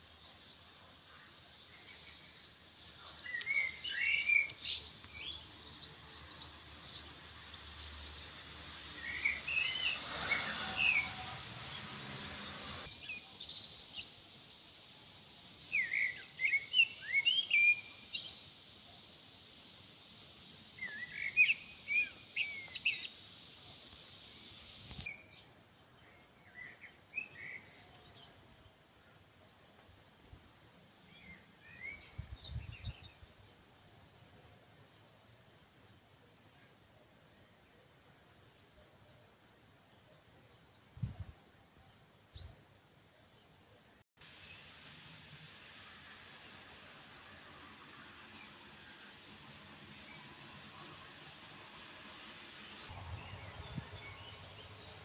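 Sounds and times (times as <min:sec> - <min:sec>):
songbirds chirping: 0:00.0 - 0:55.0
steady high hiss: 0:00.0 - 0:55.0.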